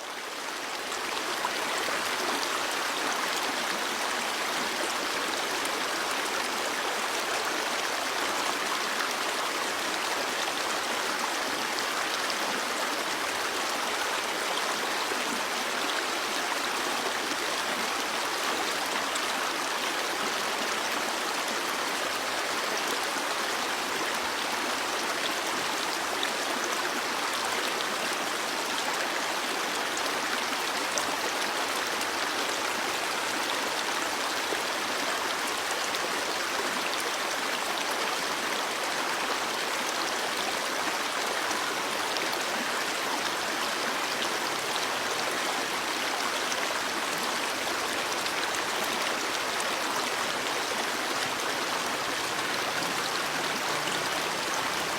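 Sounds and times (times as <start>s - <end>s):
stream water babbling: 0.0s - 54.9s.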